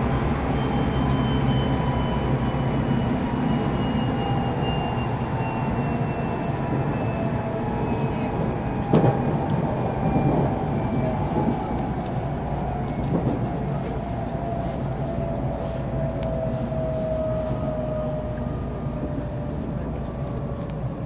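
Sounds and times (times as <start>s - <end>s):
train inverter whine: 0.0s - 21.0s
wheel and rail rumble: 0.0s - 21.0s.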